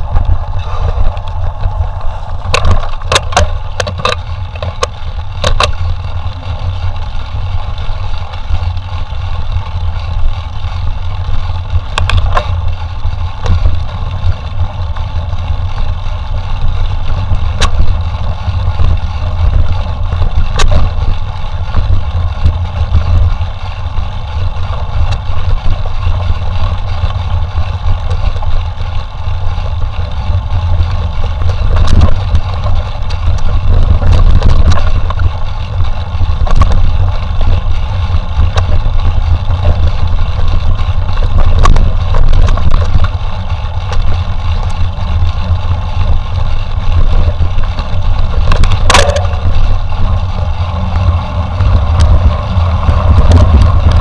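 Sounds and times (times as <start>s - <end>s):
mountain bike rolling and rattling: 0.0s - 54.0s
wind on microphone: 0.0s - 54.0s.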